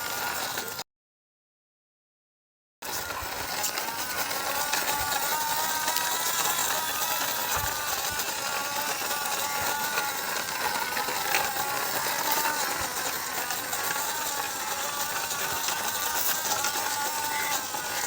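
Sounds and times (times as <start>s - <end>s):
small motor whirring with rattle: 0.0s - 0.8s, 2.8s - 18.0s.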